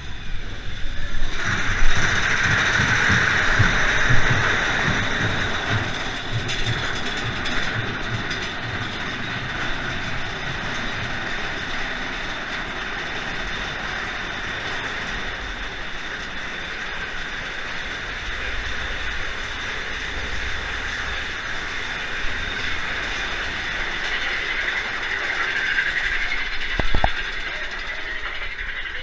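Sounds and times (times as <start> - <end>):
roller coaster train rumbling on track: 0.0 - 29.0.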